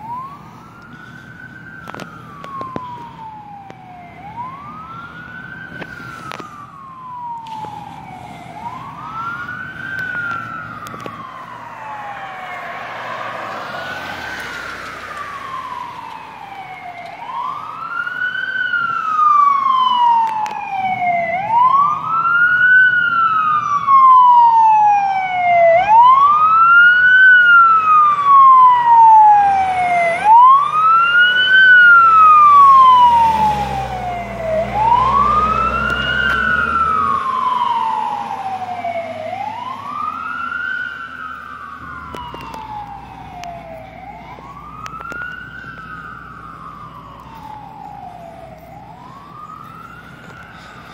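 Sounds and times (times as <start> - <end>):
engine rumbling low: 0.0 - 50.9
fire engine siren wailing: 0.0 - 50.9.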